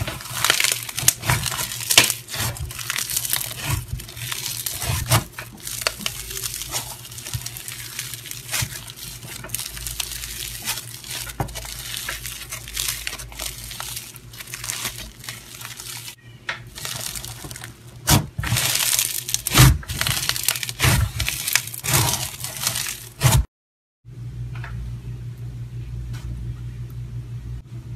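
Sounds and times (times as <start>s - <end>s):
slime popping: 0.0s - 16.1s, 16.7s - 23.4s
slime crackling and crinkling: 0.0s - 23.5s.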